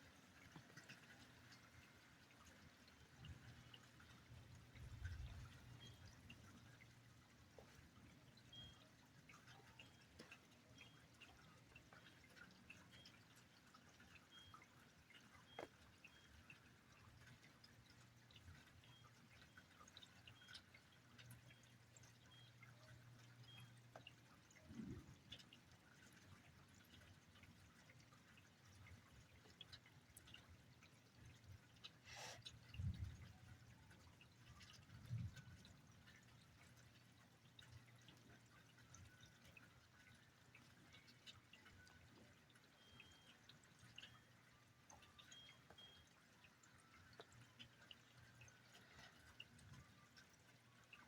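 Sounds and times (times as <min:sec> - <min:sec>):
faint rain drips: 0:00.0 - 0:51.0.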